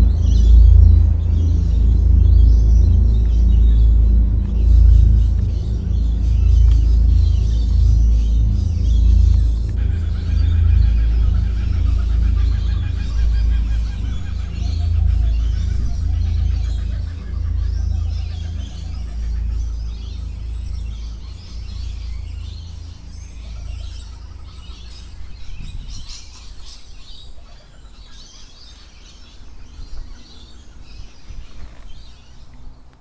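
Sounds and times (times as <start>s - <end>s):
birds chirping: 0.0s - 33.0s
deep low drone: 0.0s - 33.0s.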